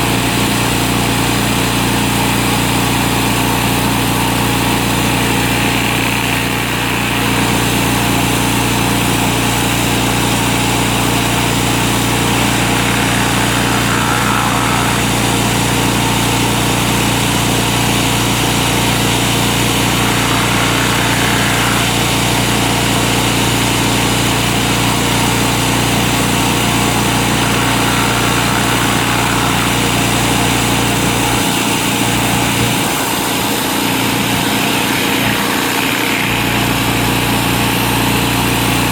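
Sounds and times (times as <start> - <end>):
pressure washer engine hum: 0.0 - 38.9
water spraying concrete: 0.0 - 38.9.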